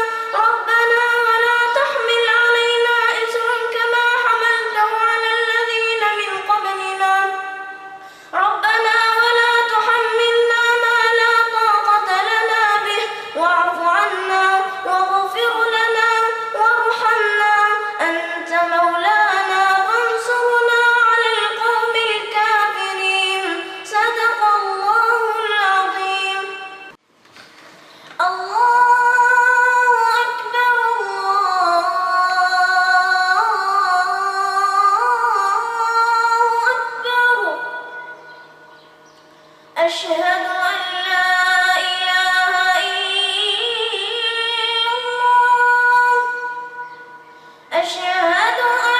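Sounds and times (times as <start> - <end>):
child reciting melodically: 0.0 - 7.8, 8.4 - 26.9, 28.2 - 37.9, 39.8 - 46.8, 47.7 - 48.9.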